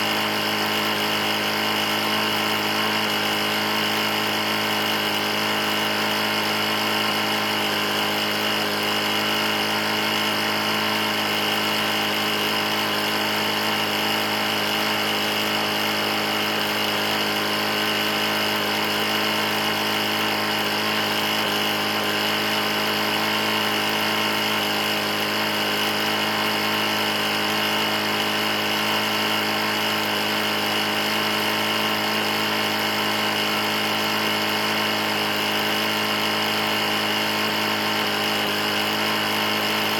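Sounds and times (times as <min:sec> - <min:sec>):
lawn mower engine knocking: 0:00.0 - 0:39.9.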